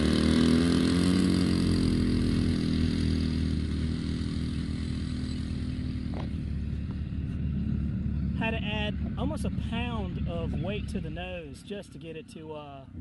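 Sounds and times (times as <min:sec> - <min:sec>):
model plane engine running: 0:00.0 - 0:11.2.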